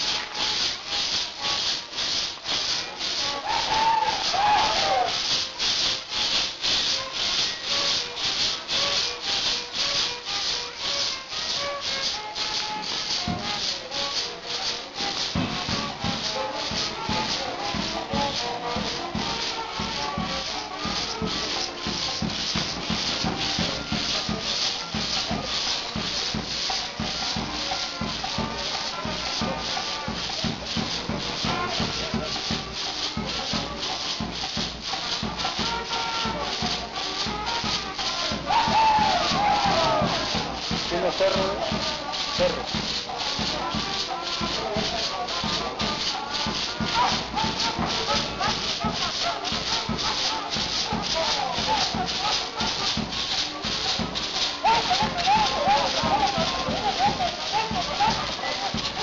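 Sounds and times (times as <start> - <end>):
low regular drum beat: 0.0 - 59.0
maracas shaken in rhythm: 0.0 - 59.0.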